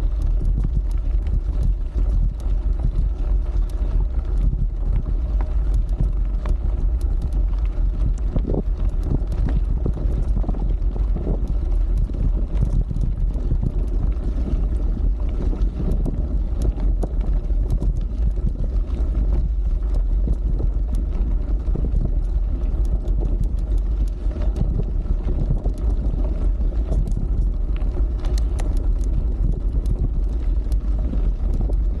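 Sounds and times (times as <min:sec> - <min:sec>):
gravel and bike parts rattling: 0:00.0 - 0:32.0
tyres crunching over stony track: 0:00.0 - 0:32.0
wind buffeting microphone: 0:00.0 - 0:32.0.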